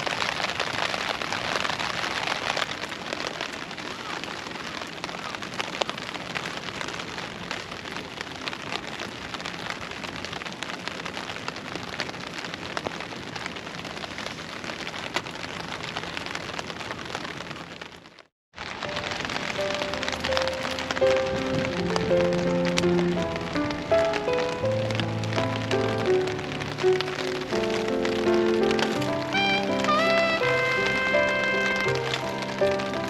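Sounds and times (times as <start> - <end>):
fire crackling: 0.0 - 33.0
wood fire hissing: 0.0 - 33.0.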